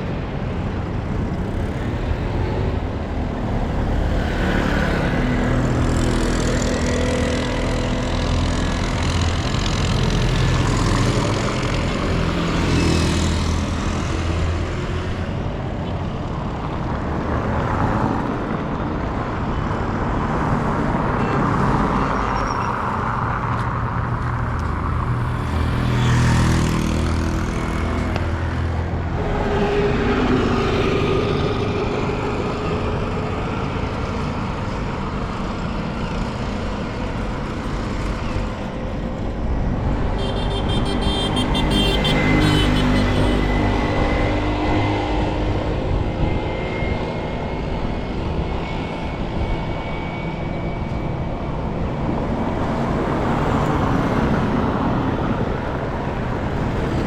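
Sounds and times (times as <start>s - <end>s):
car and truck engines running: 0.0s - 57.0s
vehicles passing close by: 0.0s - 57.0s.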